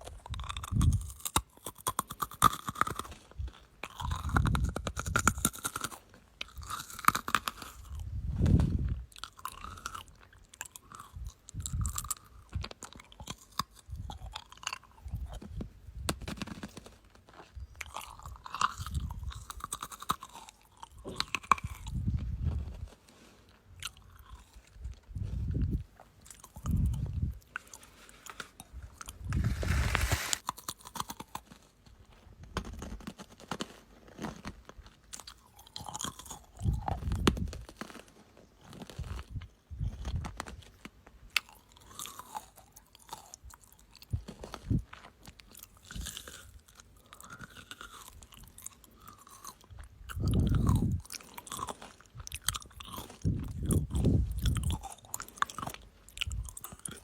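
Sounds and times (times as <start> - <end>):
crunching and chewing: 0.0 - 57.0.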